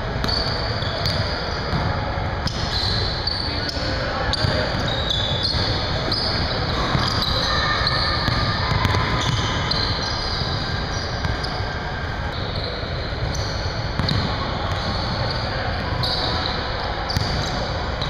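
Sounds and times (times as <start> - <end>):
large hall hum: 0.0 - 18.0
sneakers squeaking and scuffing: 0.2 - 18.0.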